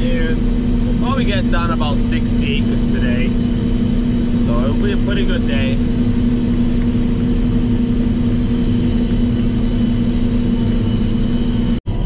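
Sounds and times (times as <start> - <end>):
high whine: 0.0 - 12.0
motor humming: 0.0 - 12.0.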